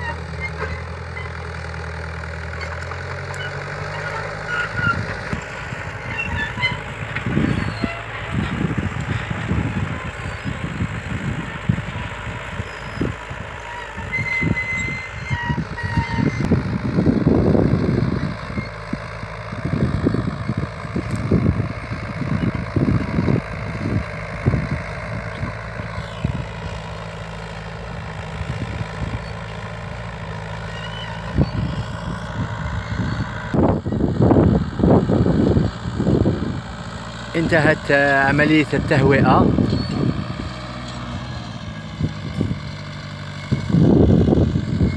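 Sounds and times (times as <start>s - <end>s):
tractor engine running: 0.0s - 44.9s
wind rumbling on microphone: 4.5s - 37.2s, 38.3s - 44.9s.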